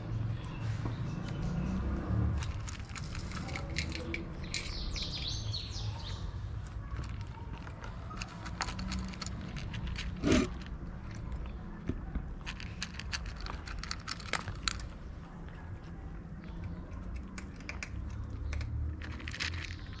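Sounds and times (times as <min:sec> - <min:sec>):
kittens crunching dry kibble: 0:00.0 - 0:20.0.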